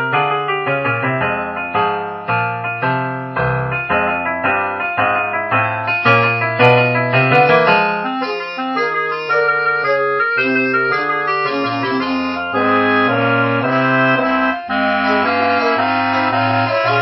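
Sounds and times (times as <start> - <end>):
instrumental background music: 0.1 - 17.0.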